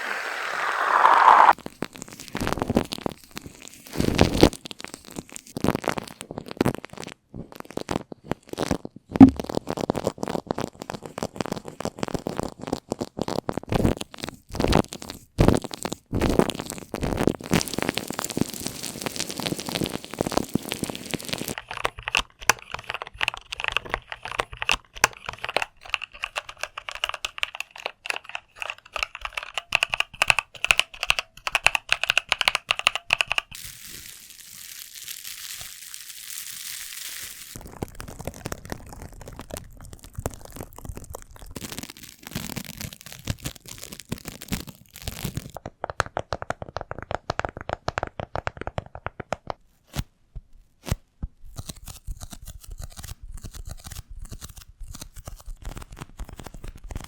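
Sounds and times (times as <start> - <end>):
rapid crackling and crinkling: 1.2 - 57.0.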